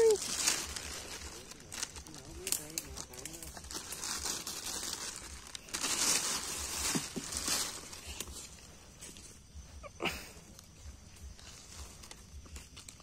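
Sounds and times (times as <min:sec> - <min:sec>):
hands rustling and crinkling: 0:00.0 - 0:13.0.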